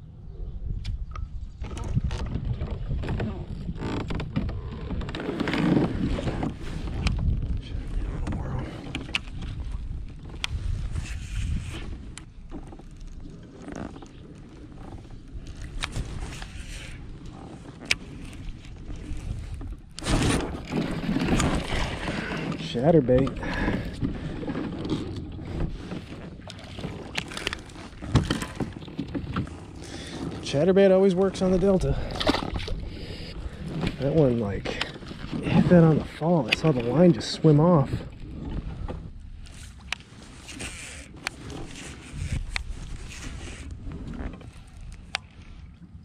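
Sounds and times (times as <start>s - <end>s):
wind rumbling on microphone: 0.0s - 46.0s.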